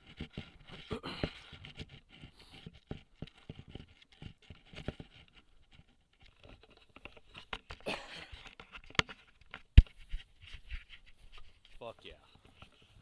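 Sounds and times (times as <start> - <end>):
handling noise on scope: 0.0 - 13.0.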